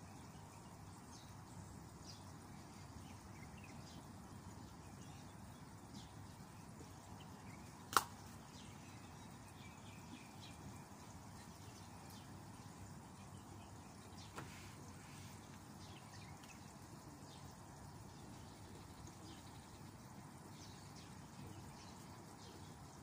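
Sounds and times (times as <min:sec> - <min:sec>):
faint outdoor background noise: 0:00.0 - 0:23.0.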